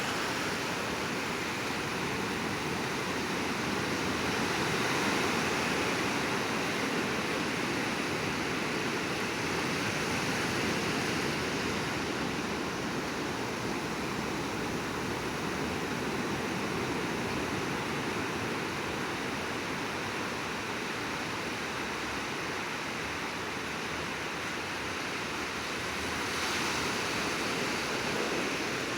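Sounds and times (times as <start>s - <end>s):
sea waves washing onto shore: 0.0s - 28.9s.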